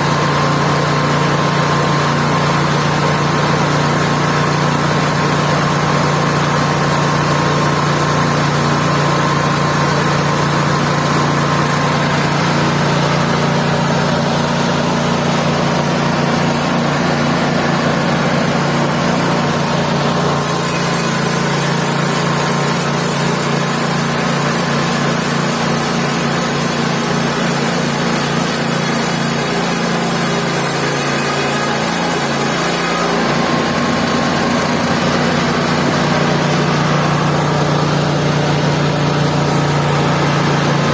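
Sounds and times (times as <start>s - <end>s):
band sawmill engine running: 0.0s - 40.9s.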